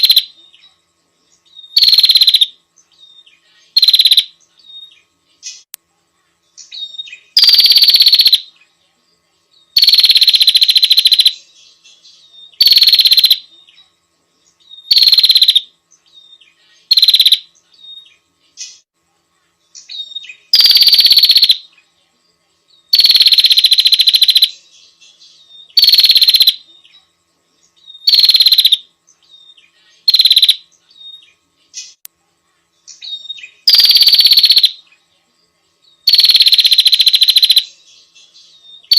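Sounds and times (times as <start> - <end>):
songbird buzzy calls: 0.0 - 5.7, 6.5 - 8.7, 9.7 - 18.9, 19.6 - 21.9, 22.8 - 32.0, 32.8 - 35.1, 36.0 - 38.9.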